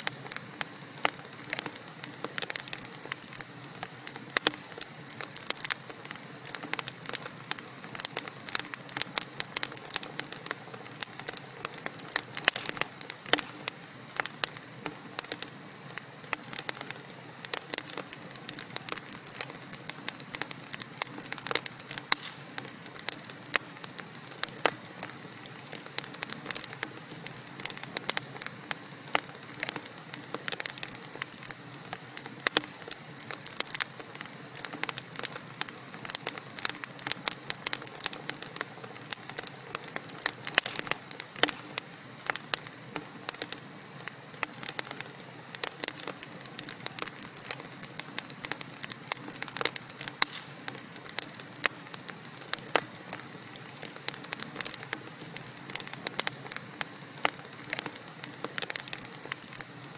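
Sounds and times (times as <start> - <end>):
fire hissing: 0.0 - 59.9
logs crackling and popping: 0.0 - 59.9.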